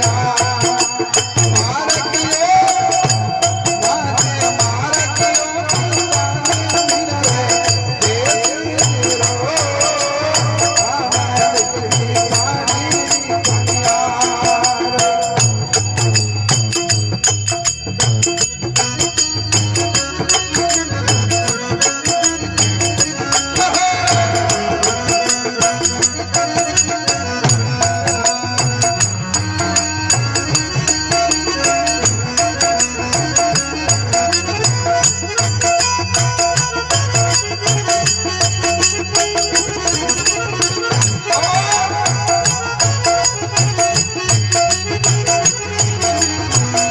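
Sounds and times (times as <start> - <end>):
held melodic notes: 0.0 - 46.9
jingling percussion: 0.0 - 46.9
steady drum beat: 0.0 - 46.9.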